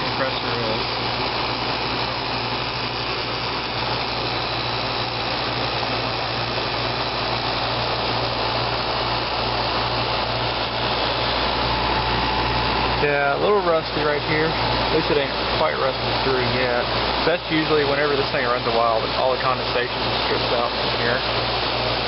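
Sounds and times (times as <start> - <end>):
compressor humming: 0.0 - 22.0
condenser fan rushing: 0.0 - 22.0.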